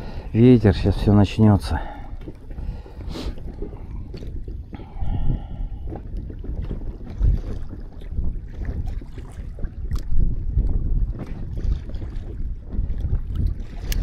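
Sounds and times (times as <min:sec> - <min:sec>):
water lapping against boat hull: 0:00.0 - 0:14.0
wind buffeting microphone: 0:00.0 - 0:14.0.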